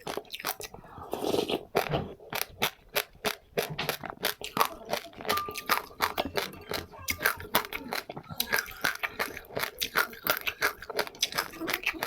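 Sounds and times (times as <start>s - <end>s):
crunchy seeds being chewed: 0.0s - 12.0s.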